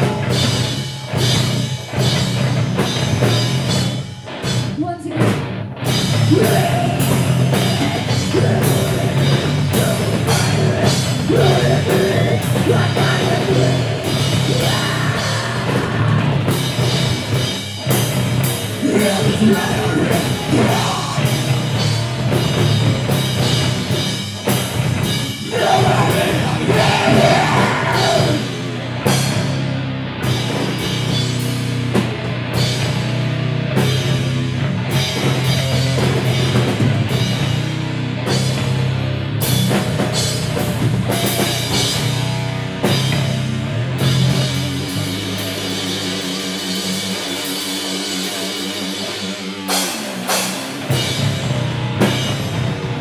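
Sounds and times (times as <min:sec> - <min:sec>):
bass guitar: 0:00.0 - 0:53.0
drum kit with cymbal hits: 0:00.0 - 0:53.0
electric guitar: 0:00.0 - 0:53.0.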